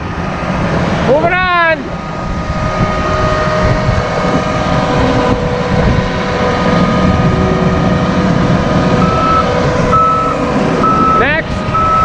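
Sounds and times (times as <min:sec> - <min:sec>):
diesel engine rumbling: 0:00.0 - 0:12.0
steady whine: 0:00.0 - 0:12.0.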